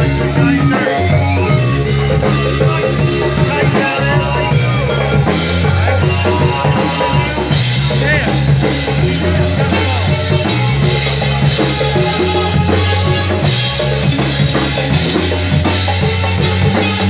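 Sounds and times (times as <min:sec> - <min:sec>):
bass line: 0:00.0 - 0:17.0
congas: 0:00.0 - 0:17.0
drum kit with cymbals: 0:00.0 - 0:17.0
electric guitar: 0:00.0 - 0:17.0.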